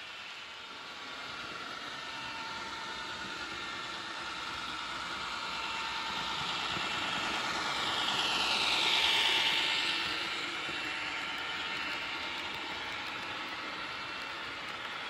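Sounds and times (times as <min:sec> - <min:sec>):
model train rolling past: 0:00.0 - 0:15.0.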